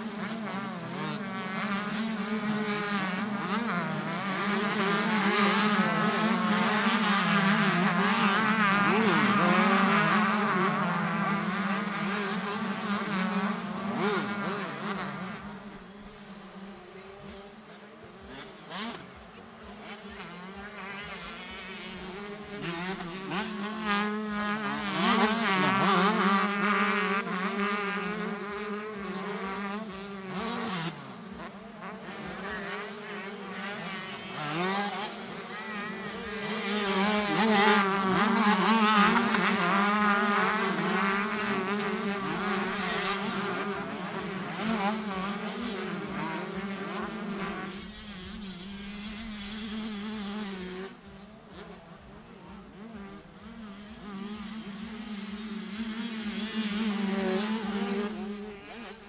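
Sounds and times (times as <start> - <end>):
motocross bikes racing: 0.0 - 59.0.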